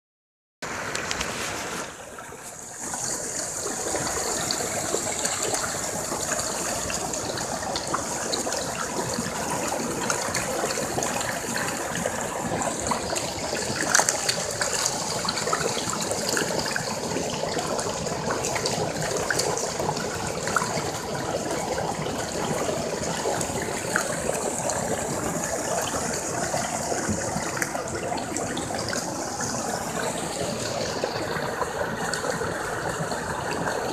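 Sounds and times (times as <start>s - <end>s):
water rushing: 0.6s - 33.9s.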